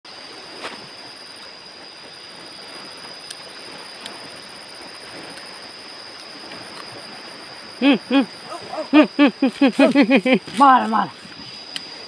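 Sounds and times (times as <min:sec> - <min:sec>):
river flowing: 0:00.1 - 0:12.0.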